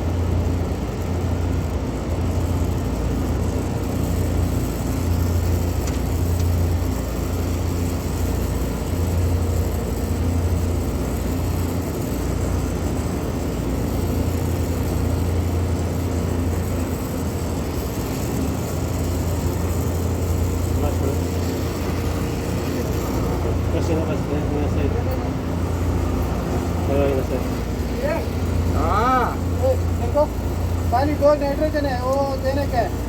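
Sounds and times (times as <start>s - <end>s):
large machine droning: 0.0s - 33.0s.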